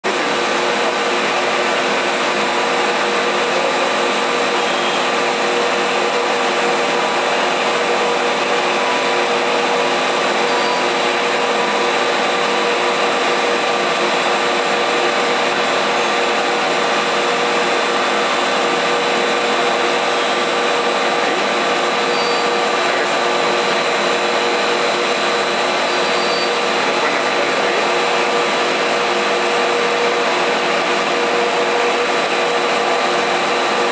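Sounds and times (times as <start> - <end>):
high machine whines: 0.0 - 33.9
machine whirr: 0.0 - 33.9.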